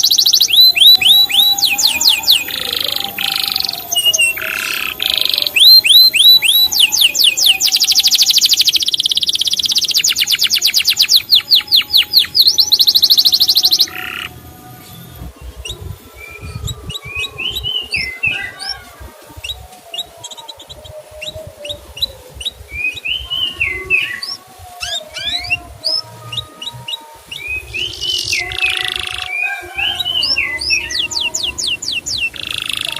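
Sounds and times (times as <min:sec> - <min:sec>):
canary singing trills: 0:00.0 - 0:32.9.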